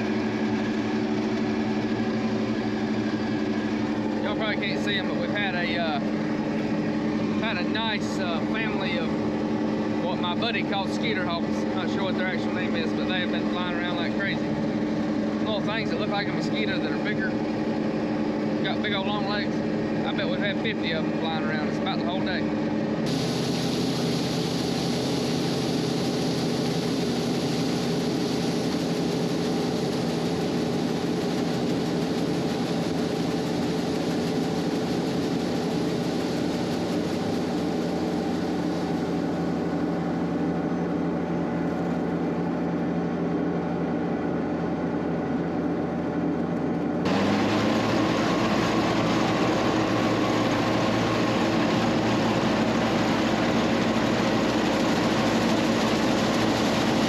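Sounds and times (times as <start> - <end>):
combine harvester engine drone: 0.0 - 57.0
rush of machinery noise: 0.0 - 57.0.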